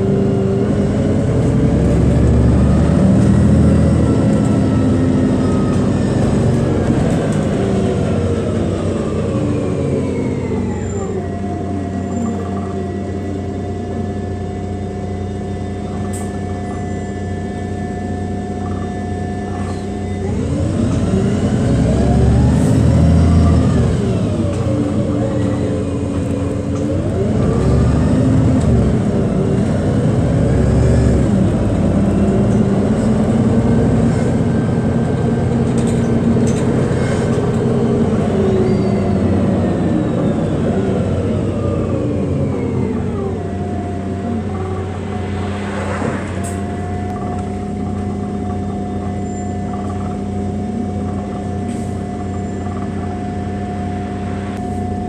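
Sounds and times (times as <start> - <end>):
bus engine humming: 0.0 - 55.0.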